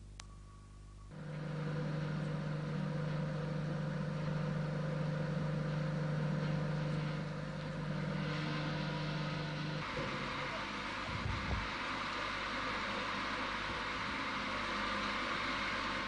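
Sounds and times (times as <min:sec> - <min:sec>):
mechanical hum with rushing noise: 0:01.1 - 0:16.0.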